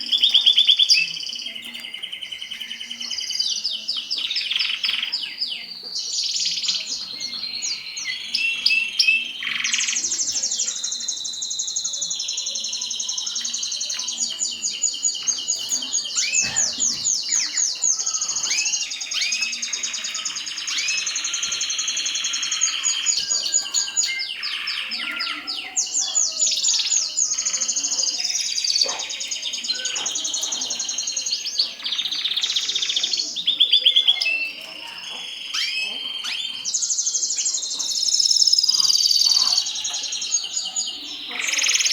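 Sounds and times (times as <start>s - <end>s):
canary singing fast trills: 0.0s - 41.9s.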